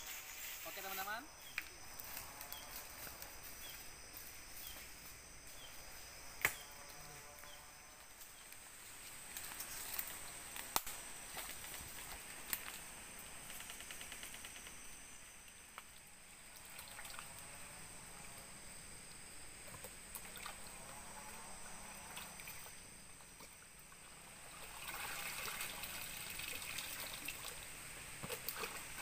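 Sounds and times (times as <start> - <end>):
insect buzz: 0.0 - 29.0.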